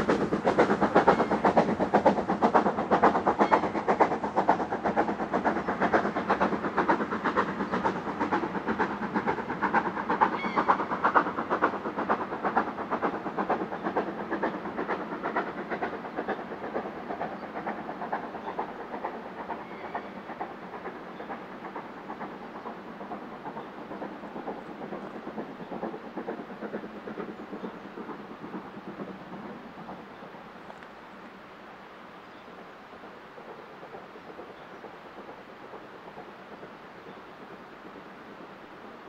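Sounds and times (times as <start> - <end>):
steam locomotive exhaust beats: 0.0 - 39.0.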